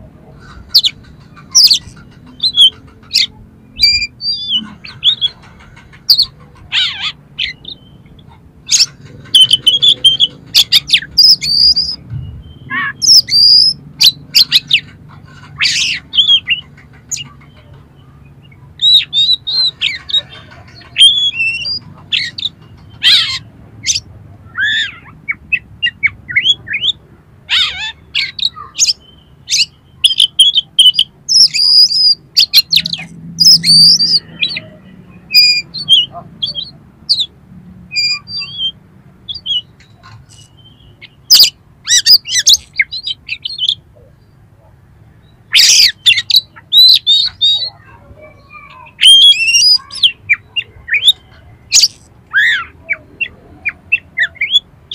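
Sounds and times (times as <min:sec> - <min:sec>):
bird chirping and squawking: 0:00.0 - 0:54.9.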